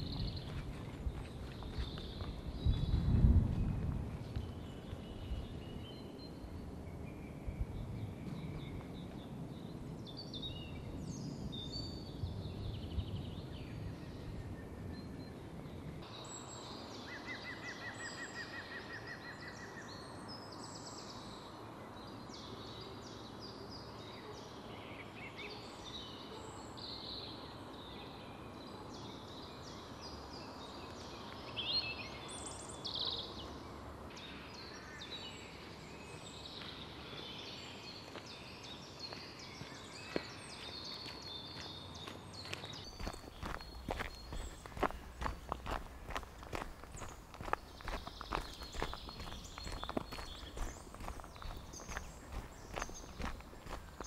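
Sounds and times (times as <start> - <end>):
songbirds singing and calling: 0.0 - 54.0.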